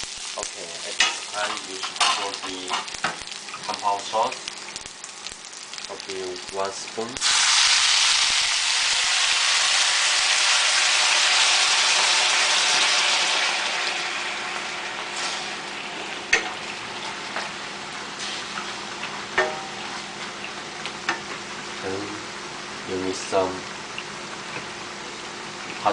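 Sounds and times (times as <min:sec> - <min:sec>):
sauce sizzling in hot pan: 0:00.0 - 0:25.9.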